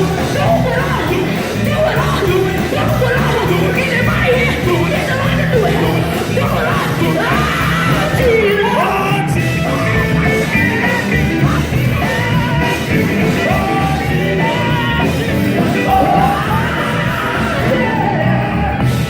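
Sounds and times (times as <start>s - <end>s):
backing vocals holding notes: 0.0s - 19.0s
gospel band playing: 0.0s - 19.0s
lead singer shouting and singing: 0.0s - 19.0s.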